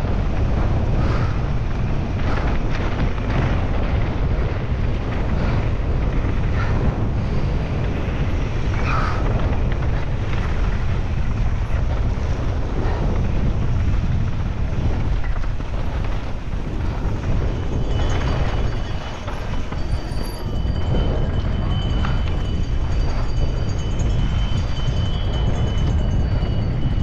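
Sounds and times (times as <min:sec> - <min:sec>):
mountain bike rattling on trail: 0:00.0 - 0:27.0
wind buffeting microphone: 0:00.0 - 0:27.0.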